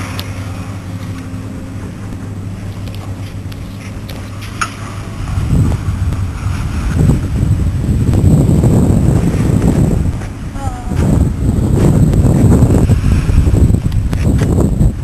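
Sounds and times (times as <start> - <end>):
low motor hum: 0.0 - 15.0
wind buffeting microphone: 0.0 - 15.0.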